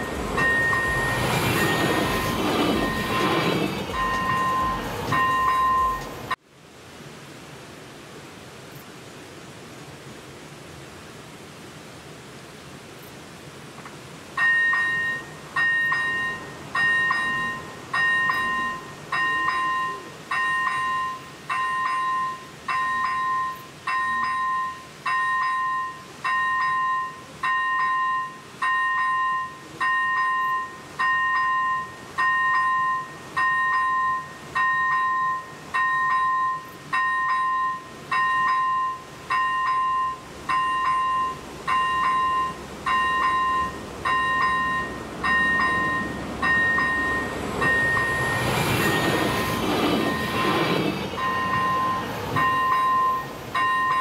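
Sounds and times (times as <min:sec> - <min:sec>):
level crossing warning bell: 0:00.0 - 0:06.4, 0:14.4 - 0:54.0.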